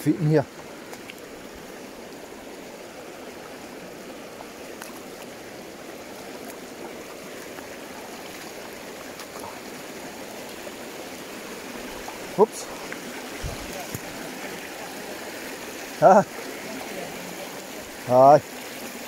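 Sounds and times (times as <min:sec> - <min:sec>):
river water rushing over stones: 0:00.0 - 0:19.0.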